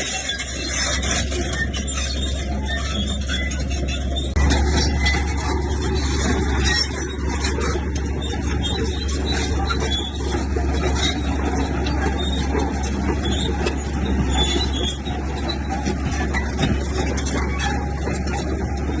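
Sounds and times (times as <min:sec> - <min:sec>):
bulldozer diesel engine running: 0:00.0 - 0:19.0
short high squeals: 0:00.0 - 0:19.0.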